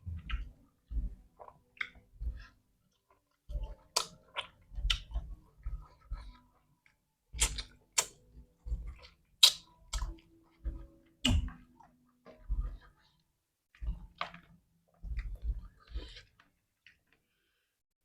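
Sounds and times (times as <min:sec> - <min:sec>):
person chewing food: 0:00.0 - 0:17.7.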